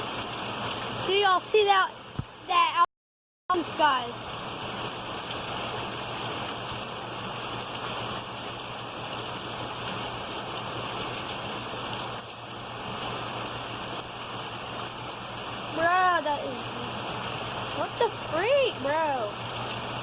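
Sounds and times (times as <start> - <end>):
pouring rain: 0.0 - 2.9, 3.5 - 20.0.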